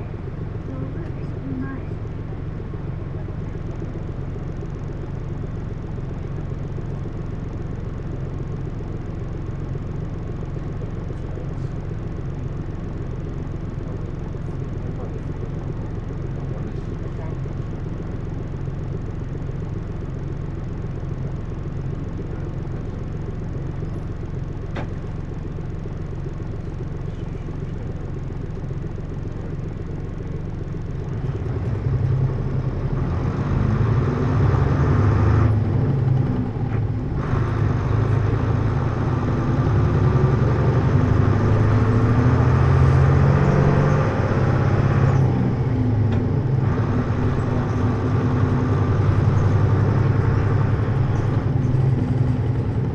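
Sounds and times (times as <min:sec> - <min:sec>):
bus diesel engine idling and revving: 0:00.0 - 0:52.9.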